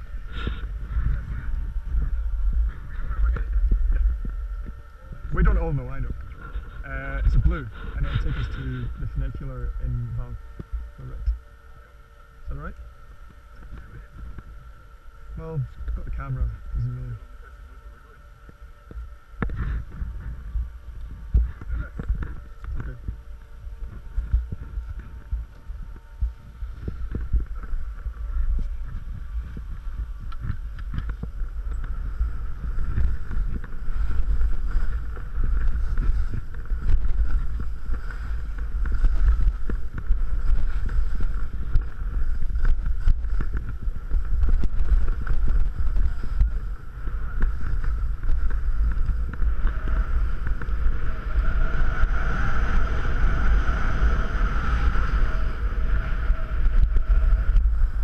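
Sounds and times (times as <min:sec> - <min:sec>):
skis scraping over snow: 0:00.0 - 0:11.2, 0:21.4 - 0:58.0
wind buffeting microphone: 0:00.0 - 0:58.0.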